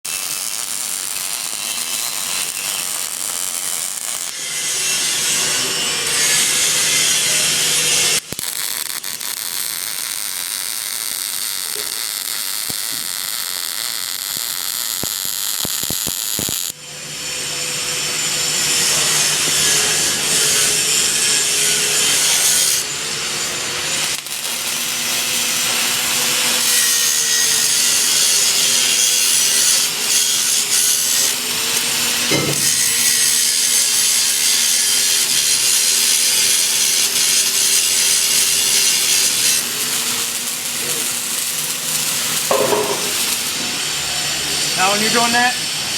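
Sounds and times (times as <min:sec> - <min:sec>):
welding arc crackling and hissing: 0:00.0 - 0:16.8, 0:17.4 - 0:45.9.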